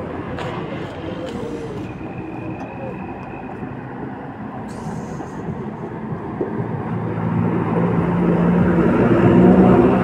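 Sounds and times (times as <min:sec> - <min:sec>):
vehicle engine approaching: 0:00.0 - 0:10.0.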